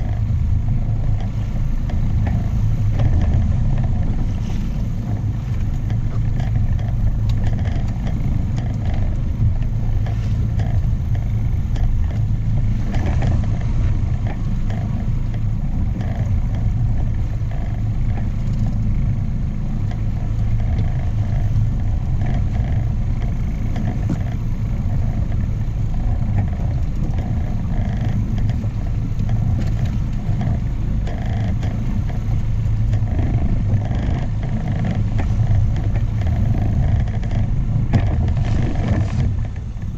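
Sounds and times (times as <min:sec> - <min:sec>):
outboard motor running: 0:00.0 - 0:39.9
water rushing: 0:00.0 - 0:39.9
wind: 0:00.0 - 0:39.9.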